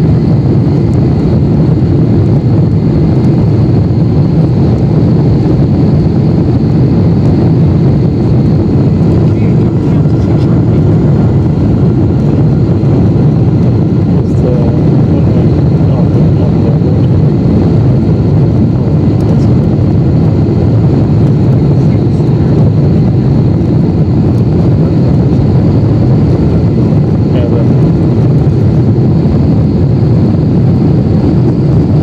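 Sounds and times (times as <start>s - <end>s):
airplane cabin roar: 0.0s - 32.0s.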